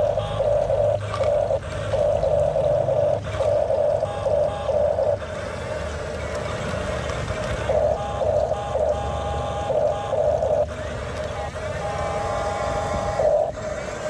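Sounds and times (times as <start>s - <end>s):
motor whine: 0.0s - 14.0s.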